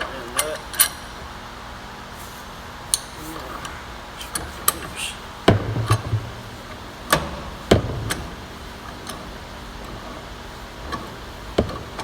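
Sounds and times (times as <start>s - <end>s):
low steady shop hum: 0.0s - 12.0s.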